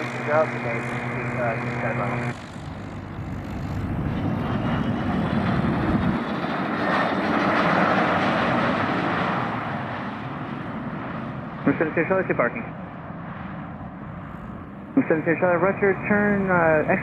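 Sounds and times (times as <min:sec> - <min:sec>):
jet landing rumble and whine: 0:00.0 - 0:17.0.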